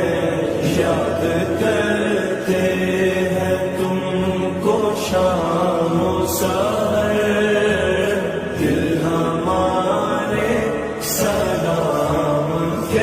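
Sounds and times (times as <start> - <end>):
person singing devotional chant: 0.0 - 13.0.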